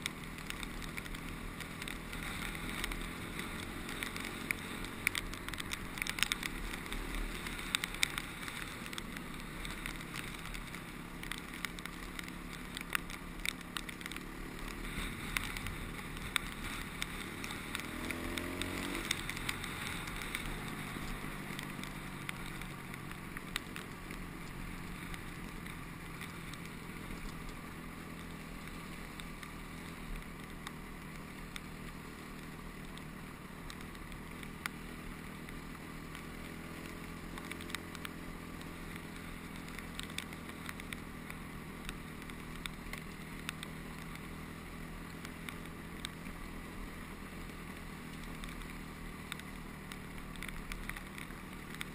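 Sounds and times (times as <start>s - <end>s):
dirt bike engine running: 0.0s - 51.9s
small clicks: 0.0s - 51.9s.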